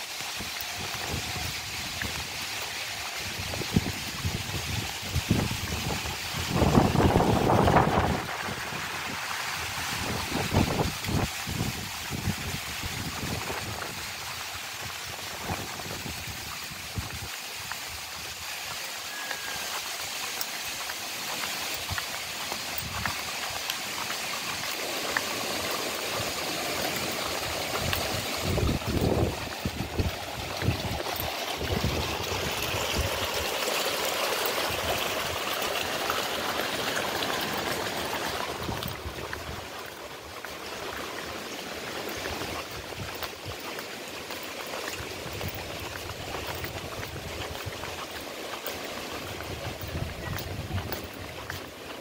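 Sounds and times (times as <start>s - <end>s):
water running over ledges: 0.0s - 52.0s.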